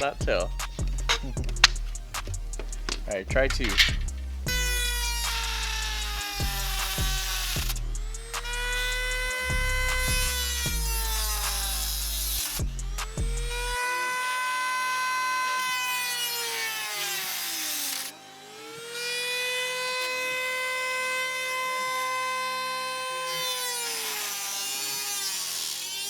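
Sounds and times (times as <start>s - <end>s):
power tool cutting sheet metal: 0.0s - 26.0s.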